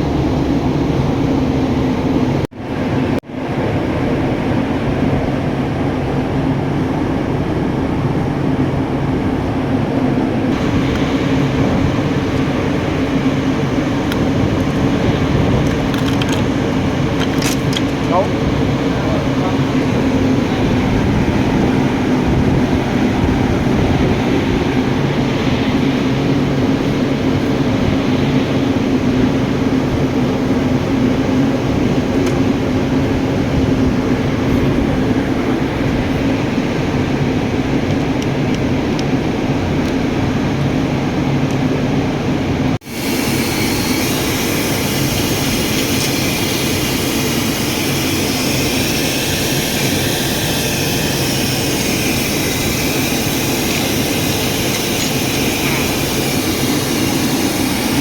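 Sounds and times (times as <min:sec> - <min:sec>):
mechanical drone with low hum: 0:00.0 - 0:58.0.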